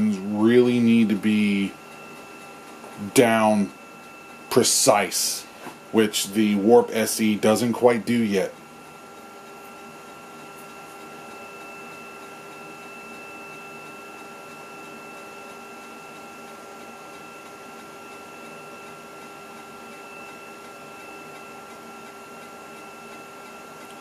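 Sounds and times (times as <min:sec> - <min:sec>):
floppy drive whirring: 0:00.0 - 0:24.0.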